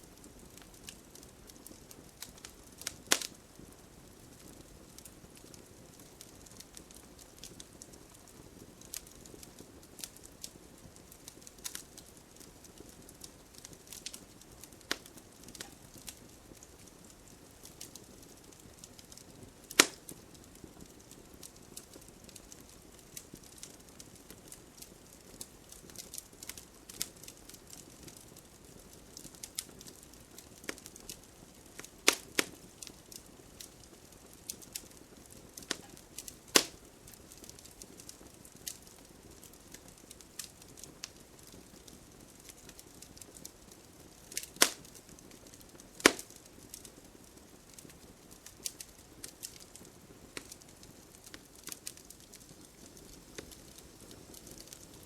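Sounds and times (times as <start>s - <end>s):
burning logs popping: 0.0s - 55.0s
wood fire crackling: 0.0s - 55.0s.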